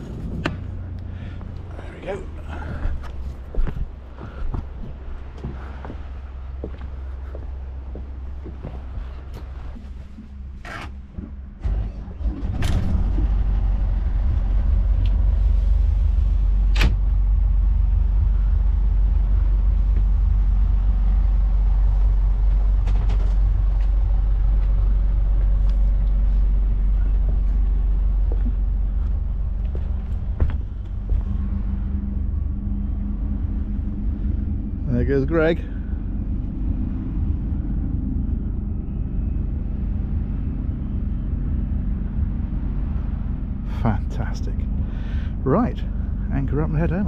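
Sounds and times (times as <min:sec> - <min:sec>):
boat engine starting and idling: 0:00.0 - 0:47.0.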